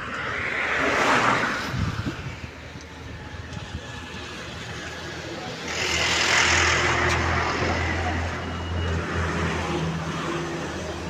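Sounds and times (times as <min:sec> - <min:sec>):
truck passing by: 0:00.0 - 0:11.0.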